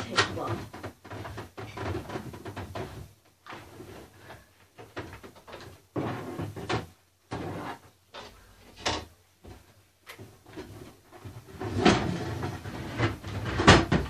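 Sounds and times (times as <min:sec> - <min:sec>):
objects knocking and clattering: 0:00.0 - 0:14.0.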